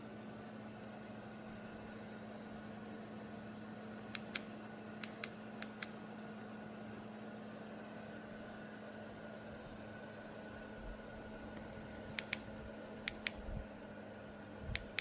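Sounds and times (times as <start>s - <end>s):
window fan humming: 0.0s - 15.0s.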